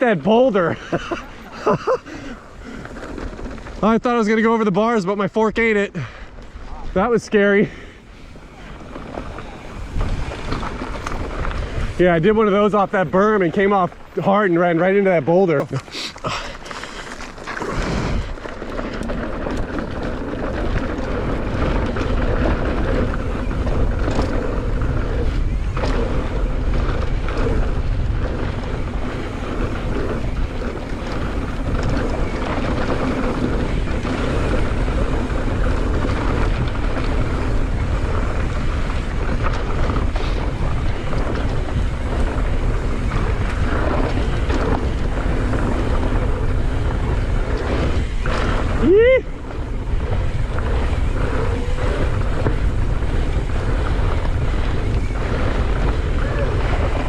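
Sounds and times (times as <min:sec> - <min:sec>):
bike tyres rolling over dirt: 0:00.0 - 0:57.0
wind on microphone: 0:07.7 - 0:13.0, 0:15.8 - 0:57.0.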